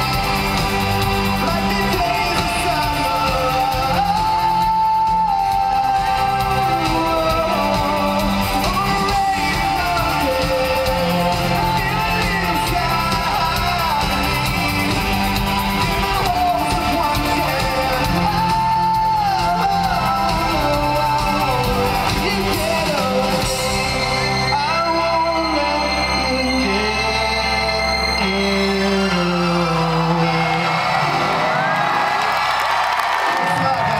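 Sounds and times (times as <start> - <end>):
person singing: 0.0 - 32.0
live rock band playing: 0.0 - 33.9.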